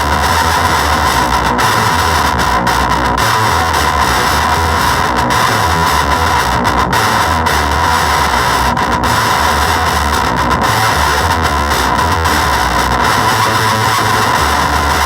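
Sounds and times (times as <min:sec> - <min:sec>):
heavily fuzzed electric guitar: 0:00.0 - 0:15.0.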